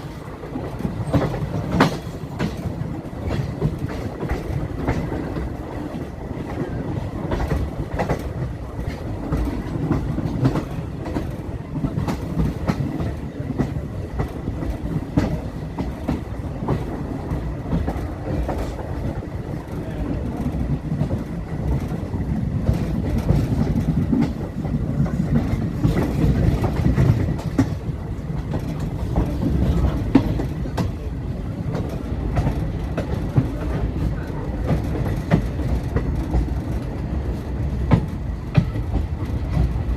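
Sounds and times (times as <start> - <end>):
train rumbling along track: 0.0 - 39.9
wheels clicking on rails: 0.0 - 39.9.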